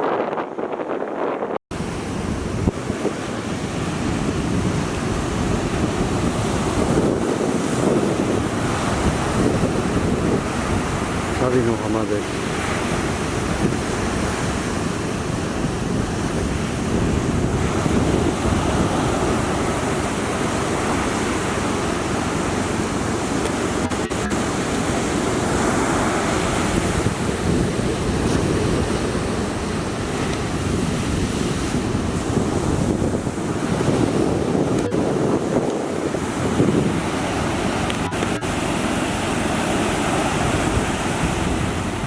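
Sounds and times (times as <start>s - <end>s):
heavy surf pounding: 0.0s - 42.0s
wind buffeting microphone: 0.0s - 42.0s.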